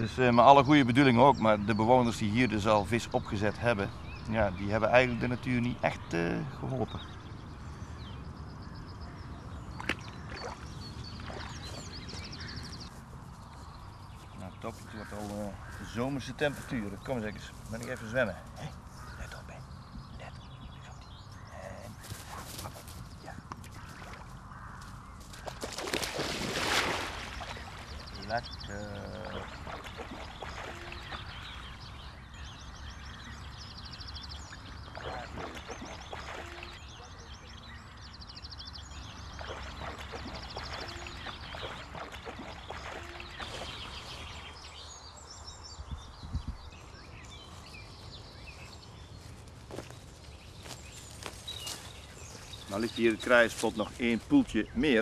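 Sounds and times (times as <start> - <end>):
small birds chirping: 0.0 - 55.0
songbirds singing: 0.0 - 55.0.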